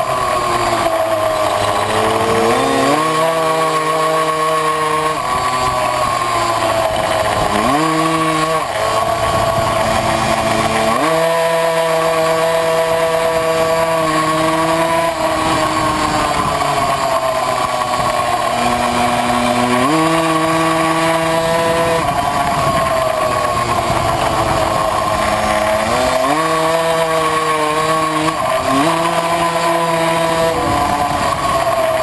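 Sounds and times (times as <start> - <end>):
two-stroke moped engine revving: 0.0 - 32.0.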